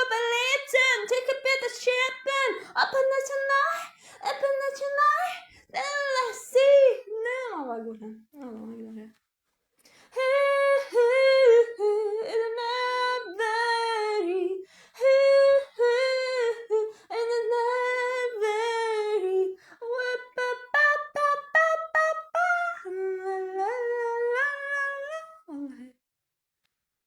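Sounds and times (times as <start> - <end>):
woman singing a cappella: 0.0 - 9.2, 9.9 - 26.0.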